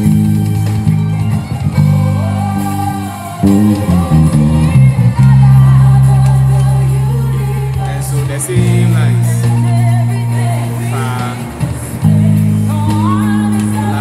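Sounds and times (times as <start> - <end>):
electric bass groove: 0.0 - 14.0.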